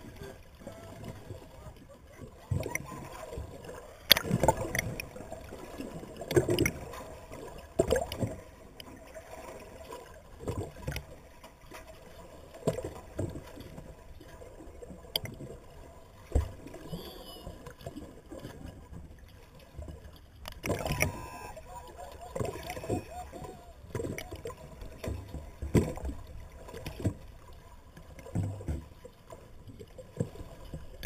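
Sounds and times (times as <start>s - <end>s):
muffled water sloshing and gurgling: 0.0s - 31.0s
splashes and knocks: 2.2s - 17.0s, 17.6s - 21.4s, 22.2s - 31.0s.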